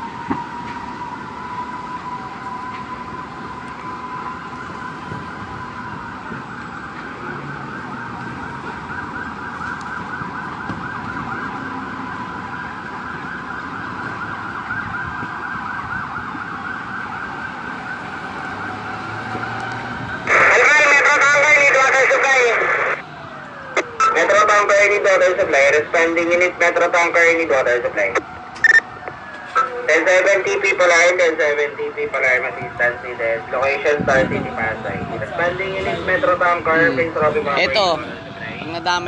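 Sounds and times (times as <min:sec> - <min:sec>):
emergency siren warbling: 0:00.0 - 0:39.0.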